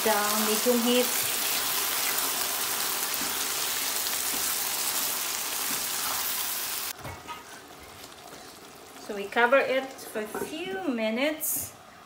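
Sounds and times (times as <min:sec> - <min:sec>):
sauce sizzling in a frying pan: 0:00.0 - 0:10.4.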